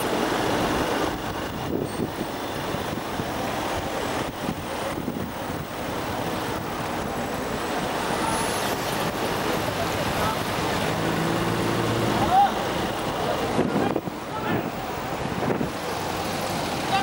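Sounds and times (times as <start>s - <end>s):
traffic engine and road noise: 0.0s - 17.0s.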